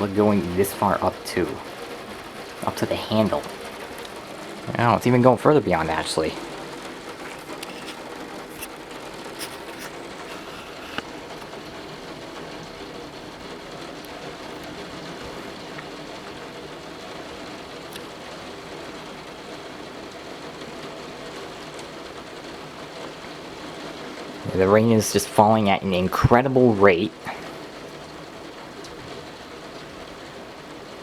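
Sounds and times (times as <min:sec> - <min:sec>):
torrential rain: 0:00.0 - 0:31.0.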